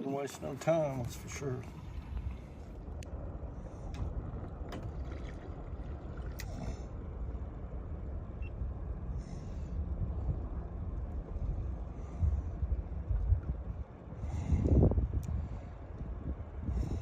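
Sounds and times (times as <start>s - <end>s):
low rumble: 0.3s - 17.0s.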